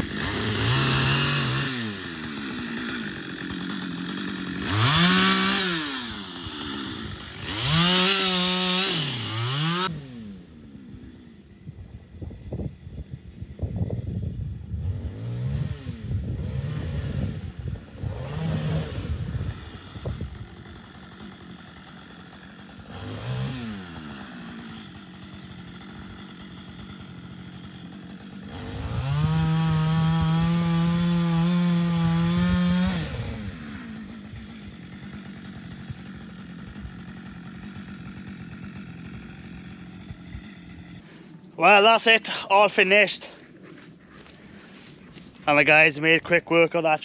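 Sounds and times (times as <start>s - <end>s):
firewood saw running: 0.0s - 41.4s
engine and machinery noise: 0.0s - 42.0s.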